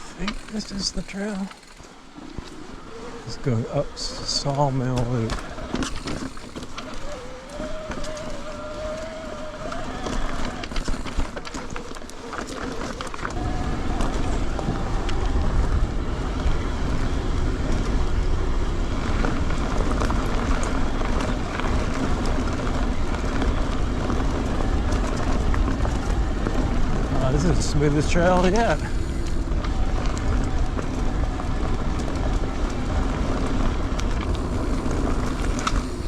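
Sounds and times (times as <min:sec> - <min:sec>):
bike clicks and rattles: 0:00.0 - 0:36.0
bike tyres on dirt: 0:00.0 - 0:36.0
wind rumble on microphone: 0:02.2 - 0:36.0.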